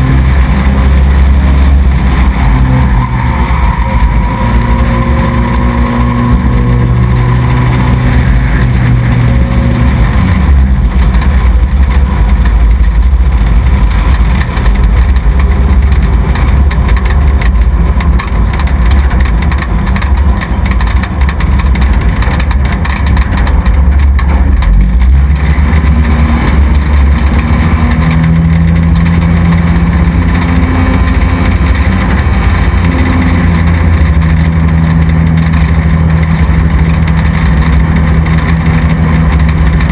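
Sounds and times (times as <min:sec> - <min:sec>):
race truck engine running loud: 0:00.0 - 0:39.9.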